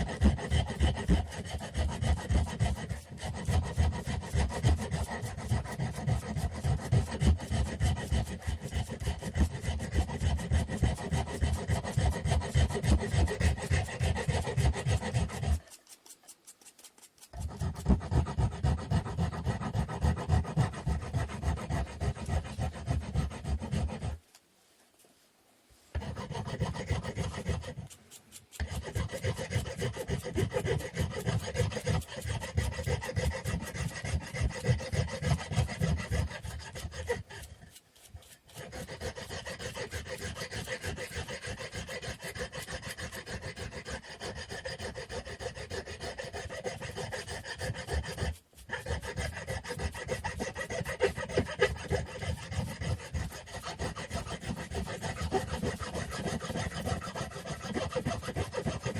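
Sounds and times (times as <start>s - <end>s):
hand sanding wood: 0.0s - 24.3s, 25.8s - 58.9s.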